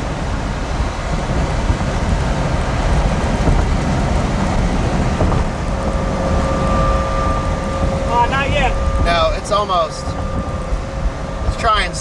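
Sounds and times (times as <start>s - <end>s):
rain: 0.0s - 12.0s
rumbling wind: 0.0s - 12.0s.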